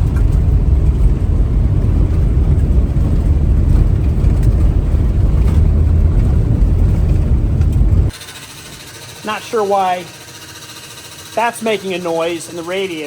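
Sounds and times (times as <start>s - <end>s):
diesel farm machine rumbling: 0.0s - 13.0s.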